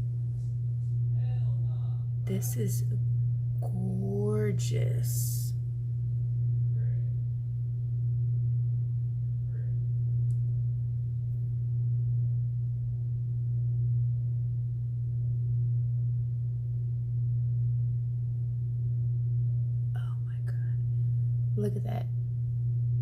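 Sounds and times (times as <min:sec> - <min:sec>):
loud low-pitched hum: 0:00.0 - 0:23.0.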